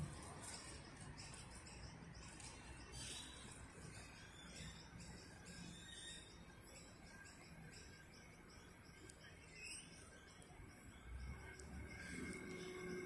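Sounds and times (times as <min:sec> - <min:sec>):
faint high chirping: 0:00.0 - 0:13.0.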